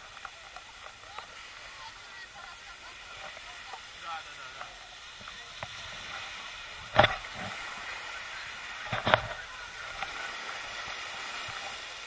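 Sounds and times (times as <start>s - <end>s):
faint distant voices: 0.0s - 12.0s
sea surf: 0.0s - 12.0s
wind: 0.0s - 12.0s.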